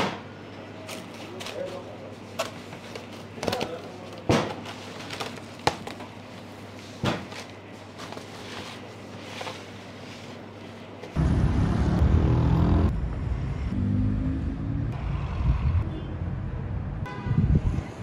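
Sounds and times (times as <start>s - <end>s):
low rumble of street noise: 0.0s - 18.0s.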